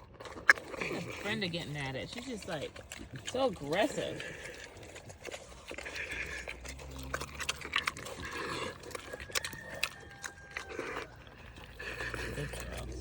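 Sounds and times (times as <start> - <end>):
pigs chewing and smacking: 0.0 - 13.0.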